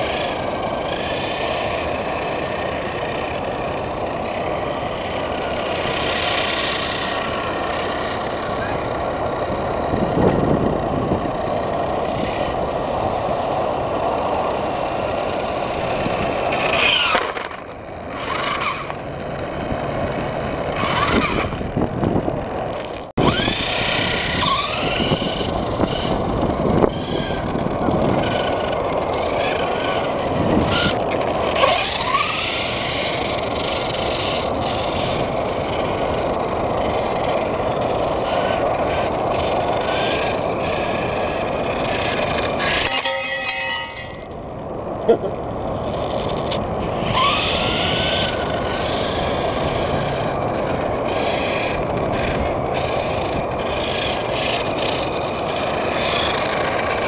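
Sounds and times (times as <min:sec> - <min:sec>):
rc motorcycle motor whining: 0:00.0 - 0:57.0
steady rushing noise: 0:00.0 - 0:57.0.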